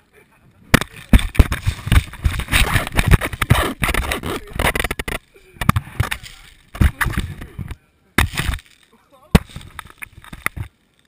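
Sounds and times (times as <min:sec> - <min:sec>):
hands scraping on a ball: 0:00.8 - 0:10.7.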